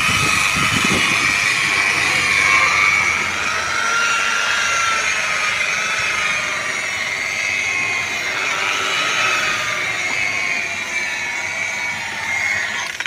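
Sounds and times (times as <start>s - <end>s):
car polisher whining: 0.0s - 13.0s.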